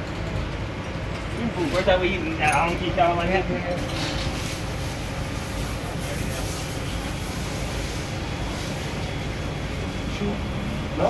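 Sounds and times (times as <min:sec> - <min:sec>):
mechanical rumble with hiss: 0:01.1 - 0:11.0.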